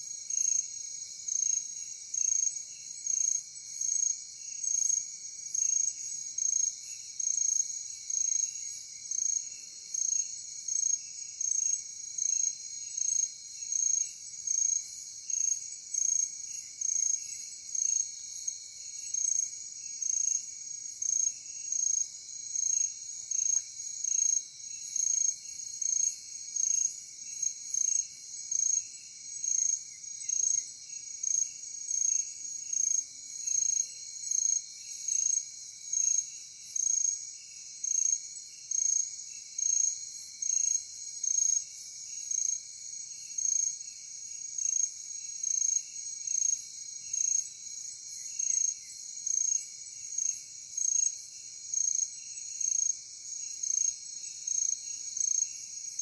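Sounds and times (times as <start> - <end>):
crickets chirping: 0.0 - 56.0
low insect trill: 0.0 - 56.0.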